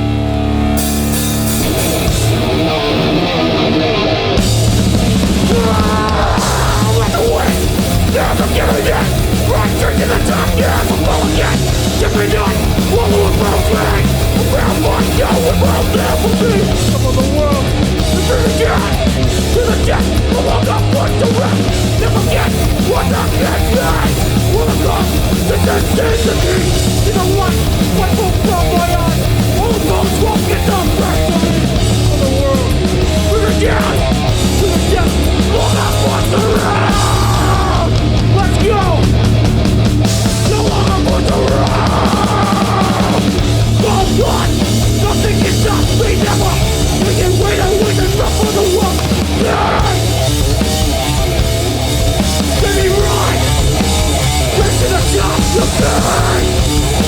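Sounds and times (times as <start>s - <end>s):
bass guitar: 0.0s - 57.0s
distorted electric guitar: 0.0s - 57.0s
pounding drums: 0.8s - 3.6s, 4.4s - 57.0s
shouted vocals: 5.2s - 39.4s, 40.2s - 57.0s.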